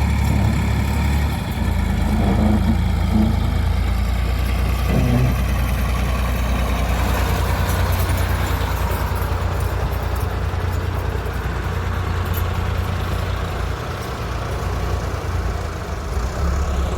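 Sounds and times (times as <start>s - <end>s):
heavy diesel engine running: 0.0s - 16.9s.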